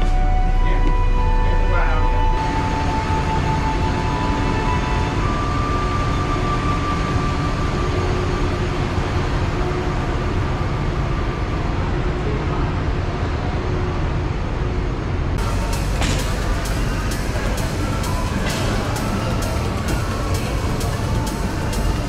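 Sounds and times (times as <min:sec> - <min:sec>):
bus engine and road noise: 0:00.0 - 0:22.0
faint high whine: 0:00.0 - 0:22.0.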